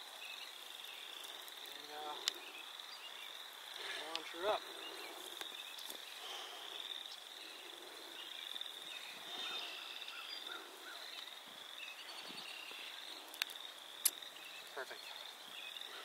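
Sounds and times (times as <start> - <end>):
bird-like chirps: 0.2 - 16.0.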